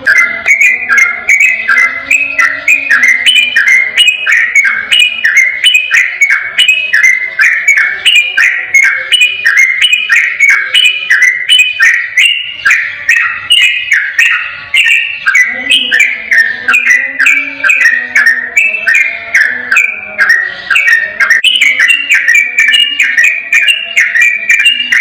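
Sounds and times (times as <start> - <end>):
bulbul singing whistled notes: 0.0 - 25.0.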